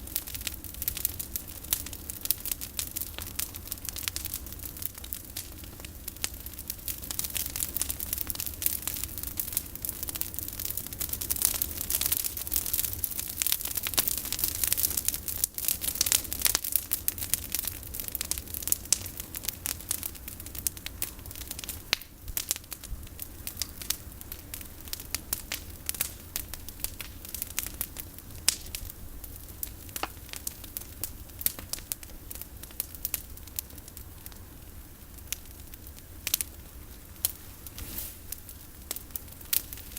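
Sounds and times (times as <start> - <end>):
bonfire crackling and snapping: 0.0 - 39.9.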